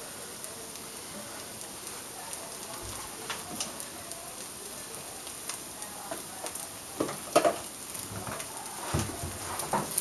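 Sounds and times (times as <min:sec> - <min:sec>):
omelet sizzling in frying pan: 0:00.0 - 0:10.0.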